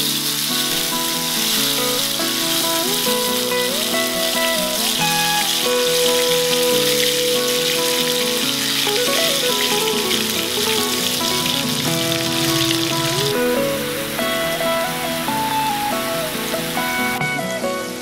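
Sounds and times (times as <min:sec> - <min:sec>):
background music: 0:00.0 - 0:18.0
tomato sizzling in pan: 0:00.0 - 0:18.0.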